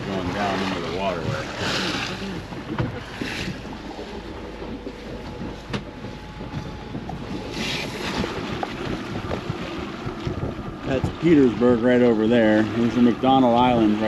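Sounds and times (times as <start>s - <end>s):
outboard engine rumbling: 0.0s - 14.0s
water washing along hull: 0.0s - 14.0s
wind buffeting microphone: 0.0s - 14.0s.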